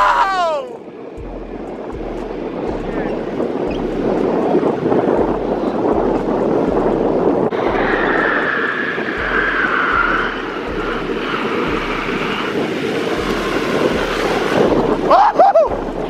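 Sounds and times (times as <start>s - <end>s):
street vehicles: 0.0s - 16.0s
wavering high whine: 0.0s - 16.0s.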